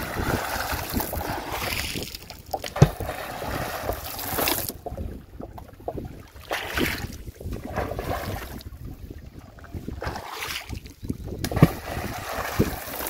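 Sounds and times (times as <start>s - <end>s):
wind buffeting microphone: 0.0s - 4.0s, 4.7s - 13.0s
water splashing around a boat: 0.0s - 13.0s.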